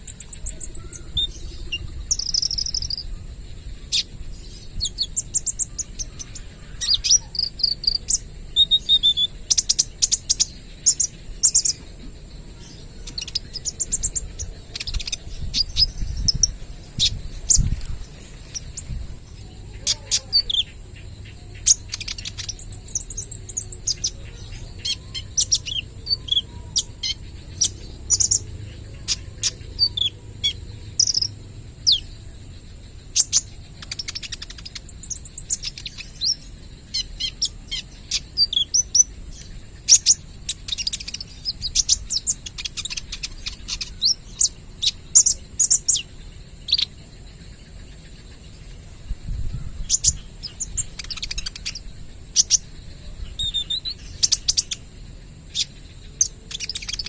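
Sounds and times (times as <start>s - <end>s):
sunbird chirping song: 0.0s - 57.0s.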